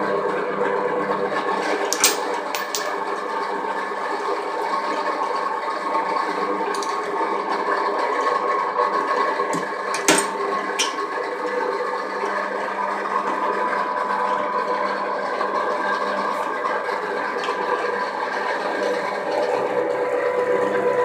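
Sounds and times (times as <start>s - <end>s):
pipe threading machine humming: 0.0s - 21.0s.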